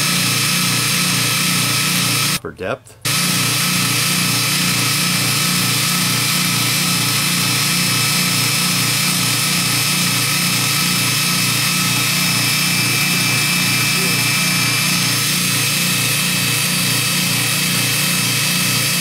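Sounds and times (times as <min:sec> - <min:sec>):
belt grinder grinding steel: 0:00.0 - 0:02.4, 0:03.0 - 0:19.0.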